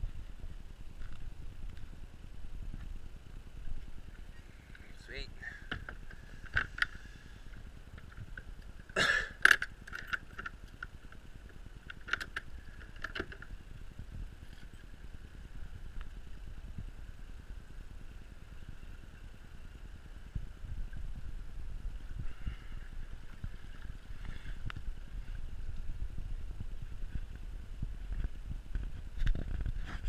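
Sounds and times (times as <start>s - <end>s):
faint background noise: 0.0s - 30.0s.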